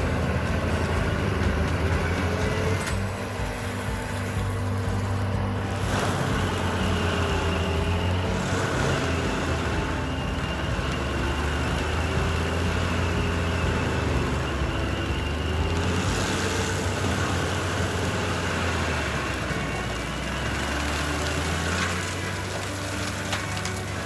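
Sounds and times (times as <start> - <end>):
stump grinder engine running: 0.0 - 24.0.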